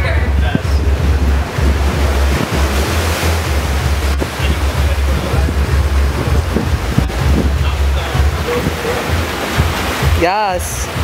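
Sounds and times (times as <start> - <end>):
sea surf rushing: 0.0 - 11.0
wind rumbling on microphone: 0.0 - 11.0.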